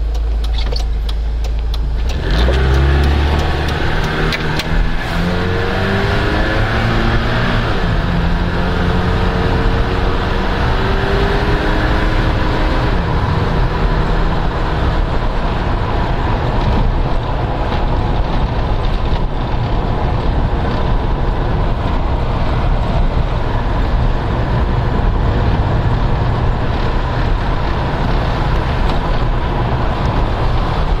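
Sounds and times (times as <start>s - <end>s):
road and wind noise: 0.0s - 31.0s
van engine: 0.0s - 31.0s.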